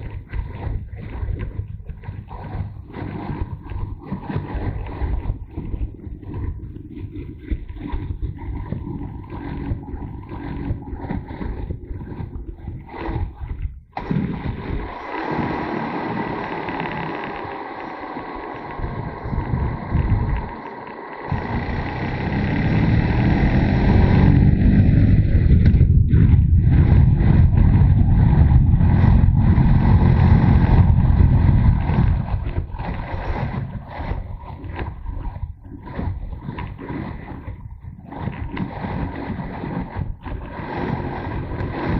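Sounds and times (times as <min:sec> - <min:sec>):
motorcycle engine running: 0:00.0 - 0:41.9
wind rumble on microphone: 0:00.0 - 0:41.9.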